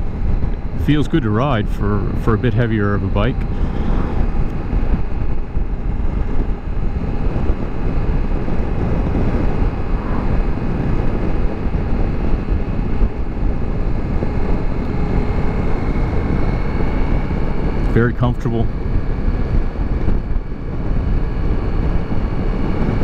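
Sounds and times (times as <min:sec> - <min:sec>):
motorcycle engine hum: 0:00.0 - 0:23.0
road noise: 0:00.0 - 0:23.0
wind rush over microphone: 0:00.0 - 0:23.0.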